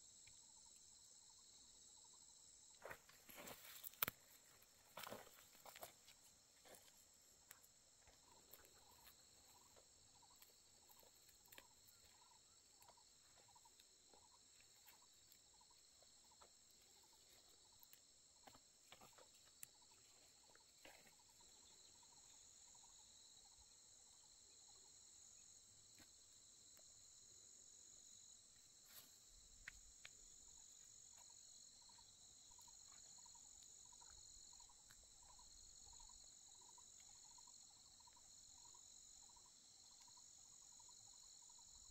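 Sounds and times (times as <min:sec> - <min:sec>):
insect trilling chorus: 0:00.0 - 0:25.5, 0:28.9 - 0:41.9.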